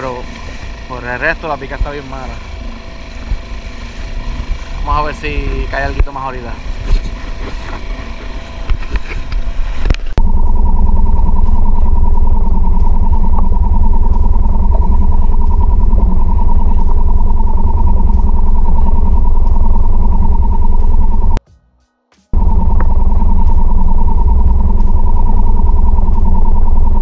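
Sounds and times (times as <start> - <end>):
outboard motor running: 0.0 - 21.4, 22.3 - 27.0.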